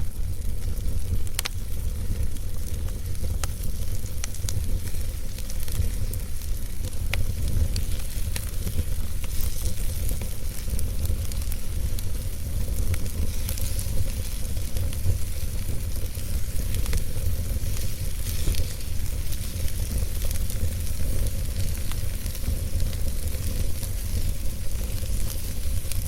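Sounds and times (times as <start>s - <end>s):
fire rumbling: 0.0s - 26.0s
logs crackling and popping: 0.0s - 26.0s.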